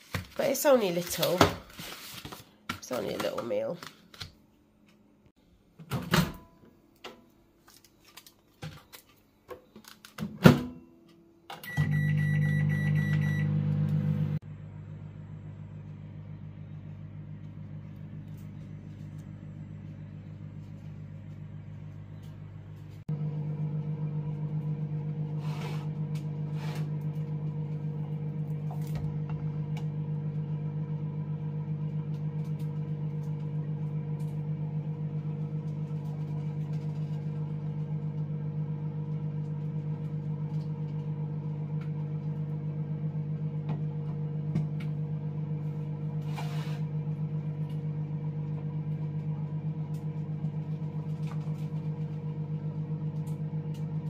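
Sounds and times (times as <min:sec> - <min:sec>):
microwave oven humming: 0:09.7 - 0:54.0.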